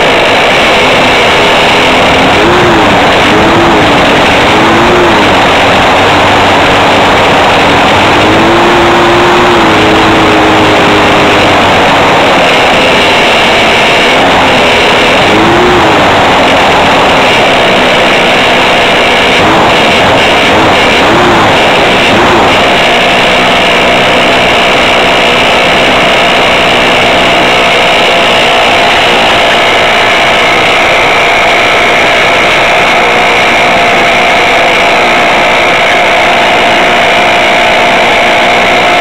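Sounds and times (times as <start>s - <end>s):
aircraft engine and propeller: 0.0s - 39.0s
wind noise: 0.0s - 39.0s.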